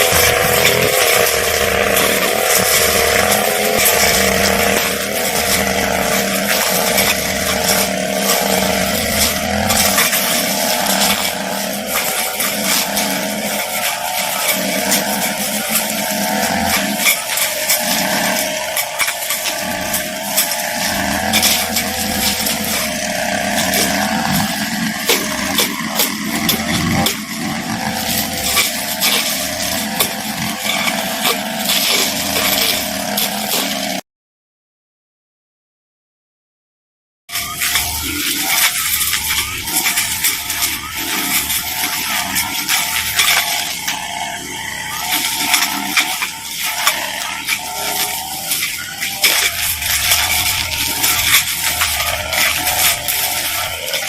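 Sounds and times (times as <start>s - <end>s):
blade cutting through grass: 0.0s - 34.0s, 37.3s - 54.0s
brush cutter running: 0.0s - 34.0s, 37.3s - 54.0s.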